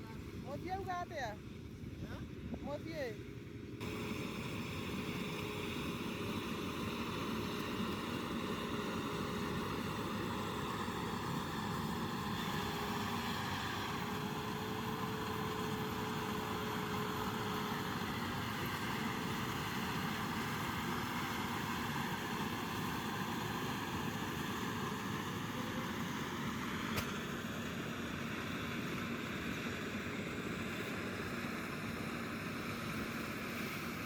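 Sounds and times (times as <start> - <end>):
engine droning steadily: 0.0 - 34.0.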